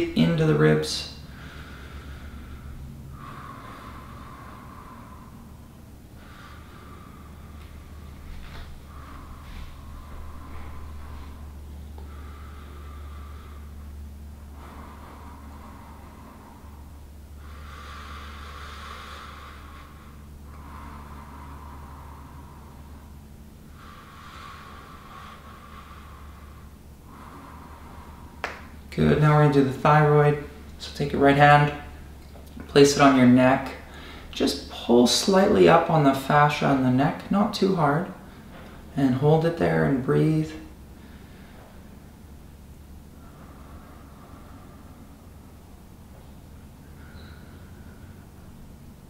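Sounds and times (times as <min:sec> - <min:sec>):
low steady hum: 0:00.0 - 0:49.0
man breathing deeply: 0:01.0 - 0:36.9, 0:38.1 - 0:49.0.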